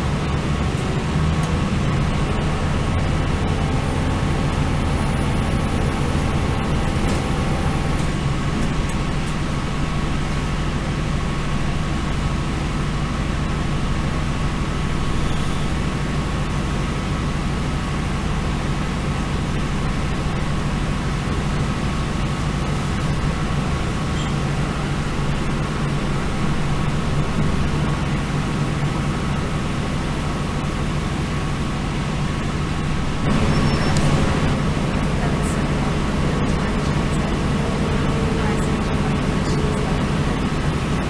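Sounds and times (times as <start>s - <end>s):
train engine drone: 0.0s - 41.0s
wheels rumbling on rail: 0.0s - 41.0s.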